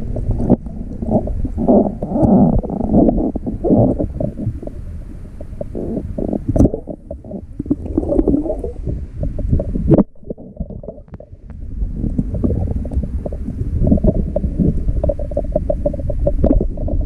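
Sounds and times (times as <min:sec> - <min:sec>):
underwater rumbling and gurgling: 0:00.0 - 0:17.0.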